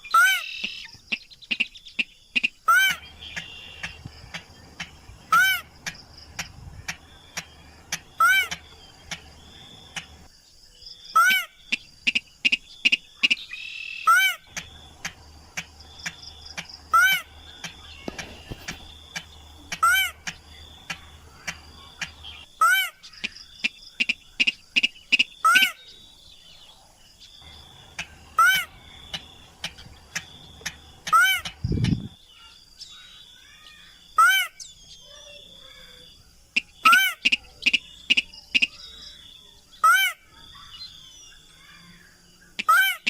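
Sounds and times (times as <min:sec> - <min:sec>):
rail bird arched call: 0:00.0 - 0:10.3, 0:11.1 - 0:26.0, 0:27.4 - 0:39.1.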